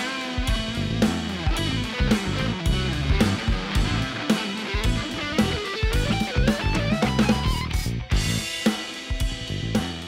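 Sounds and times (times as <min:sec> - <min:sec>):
fast electric guitar lick: 0:00.0 - 0:09.2.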